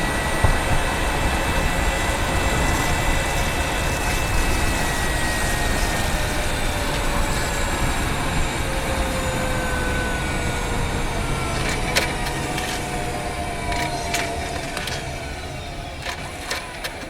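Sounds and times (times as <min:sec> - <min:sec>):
road rumble: 0:00.0 - 0:17.0
whining tones gliding down: 0:00.0 - 0:17.0.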